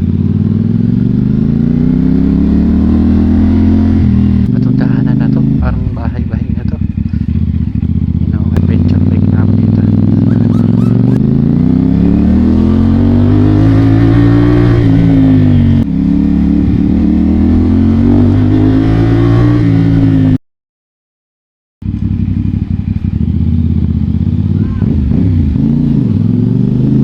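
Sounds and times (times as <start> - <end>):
motorcycle accelerating: 0.0 - 20.4, 21.8 - 27.0.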